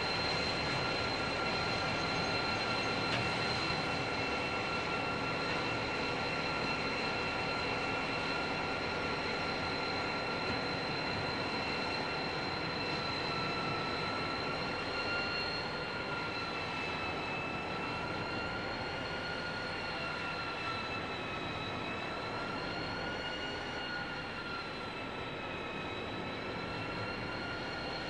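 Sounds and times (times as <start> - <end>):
constant high whine: 0.0 - 28.0.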